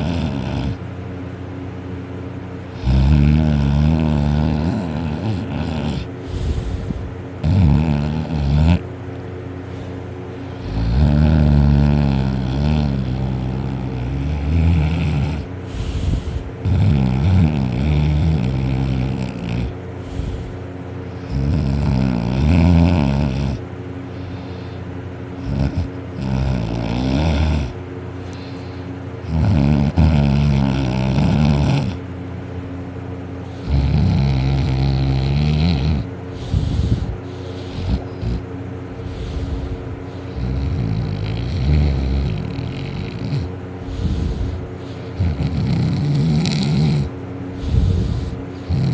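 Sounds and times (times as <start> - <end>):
person snoring loudly: 0.0 - 0.8, 2.7 - 8.8, 10.5 - 20.5, 21.1 - 23.6, 25.4 - 32.0, 33.4 - 38.4, 39.0 - 48.9.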